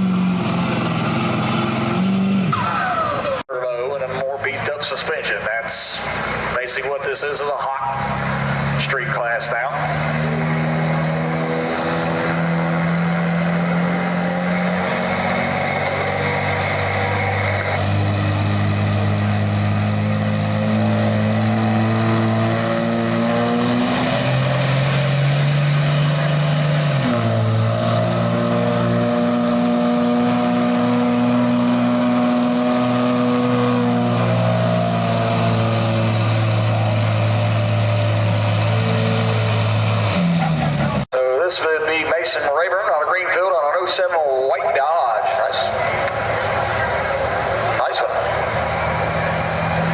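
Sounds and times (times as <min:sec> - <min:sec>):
truck engine at high revs: 0:00.0 - 0:49.9.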